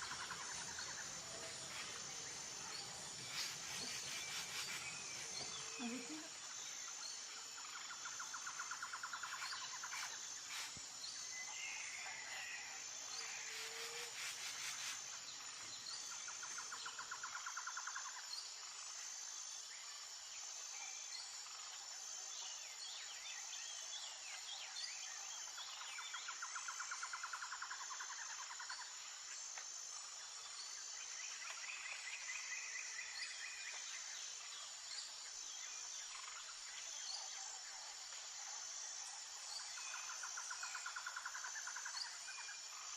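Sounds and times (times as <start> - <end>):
high-pitched insect trill: 0.0 - 42.9.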